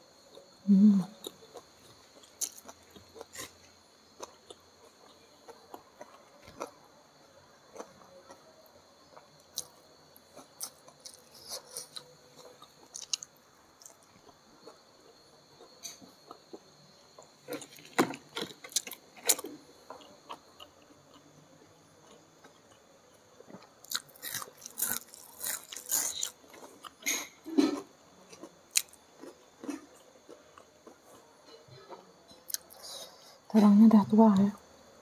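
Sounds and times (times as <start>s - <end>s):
person chewing food: 1.2s - 6.9s, 7.6s - 31.3s, 31.9s - 33.1s.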